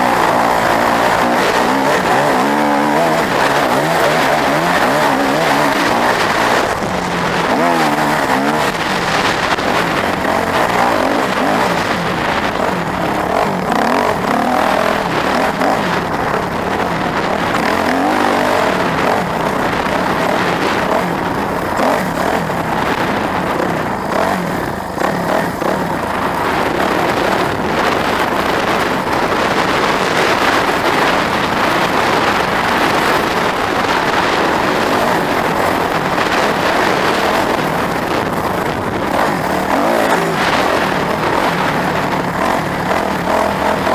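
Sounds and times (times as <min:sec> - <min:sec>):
loud steady rushing noise: 0:00.0 - 0:43.9
vehicle engine running: 0:00.0 - 0:43.9.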